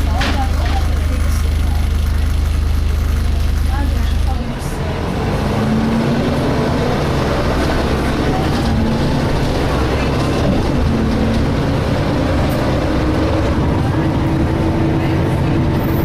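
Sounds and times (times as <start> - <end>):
bus diesel engine droning: 0.0 - 16.0
whining engine tones: 0.0 - 16.0.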